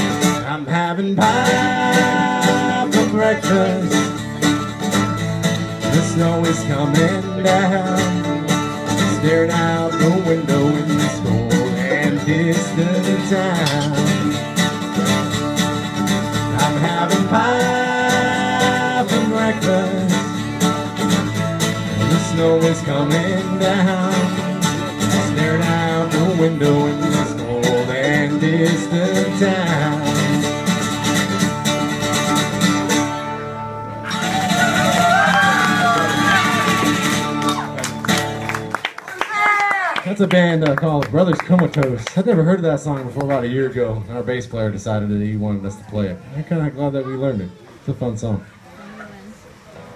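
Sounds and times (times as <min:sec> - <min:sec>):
country band guitars: 0:00.0 - 0:39.0, 0:39.6 - 0:47.5.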